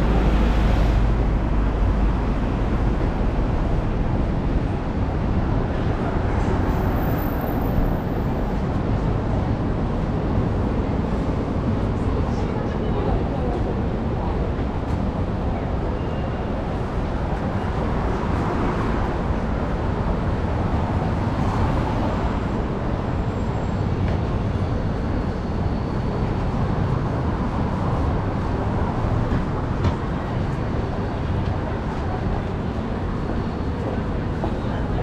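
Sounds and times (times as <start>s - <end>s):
city street traffic: 0.0s - 35.0s.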